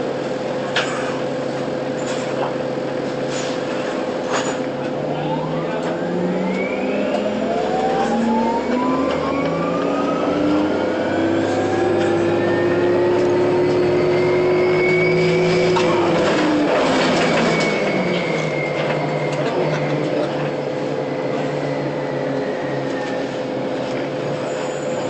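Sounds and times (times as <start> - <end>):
bus drivetrain whining: 0.0 - 25.0.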